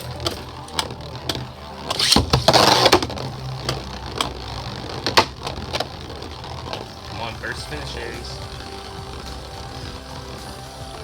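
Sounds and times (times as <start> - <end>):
spinning tops whirring: 0.0 - 11.0.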